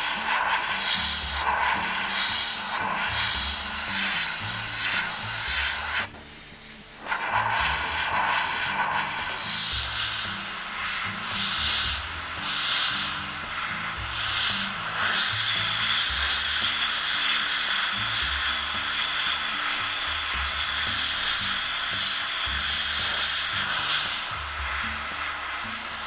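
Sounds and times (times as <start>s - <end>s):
airbrush spraying hiss: 0.0s - 26.0s.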